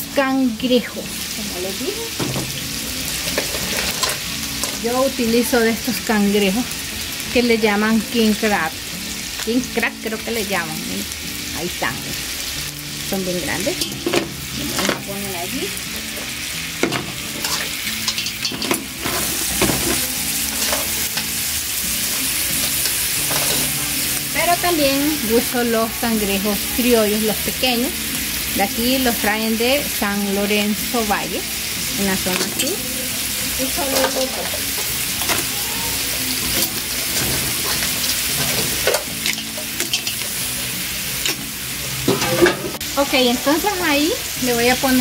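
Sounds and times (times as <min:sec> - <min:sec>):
oil sizzling in a pot: 0:00.0 - 0:45.0.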